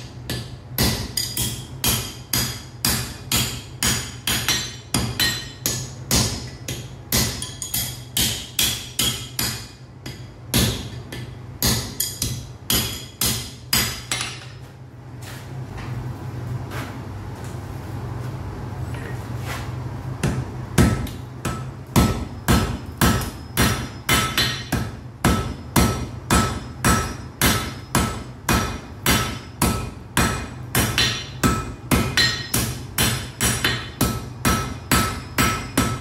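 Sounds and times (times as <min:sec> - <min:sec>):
hammer striking iron on anvil: 0:00.0 - 0:14.6, 0:20.2 - 0:36.0
low hum and rushing noise: 0:00.0 - 0:36.0.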